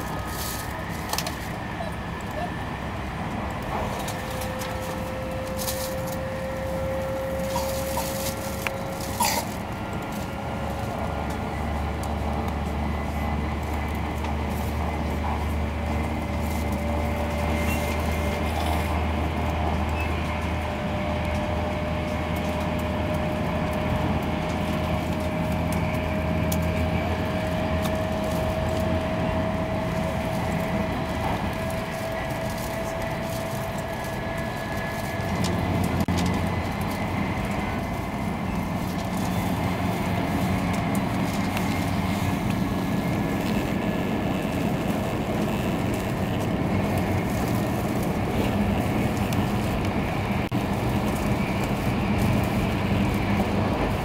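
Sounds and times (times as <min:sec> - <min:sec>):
train low rumble: 0:00.0 - 0:54.0
train whine rising in pitch: 0:00.0 - 0:54.0.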